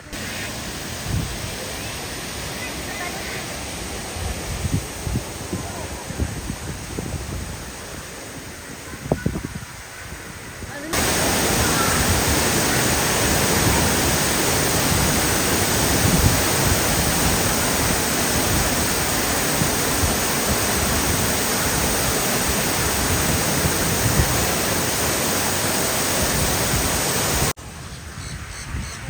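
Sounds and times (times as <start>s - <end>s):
waterfall rushing: 0.0s - 27.6s.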